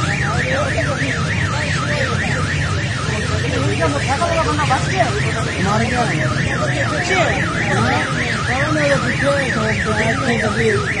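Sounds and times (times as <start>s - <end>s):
electronic siren warbling: 0.0s - 11.0s.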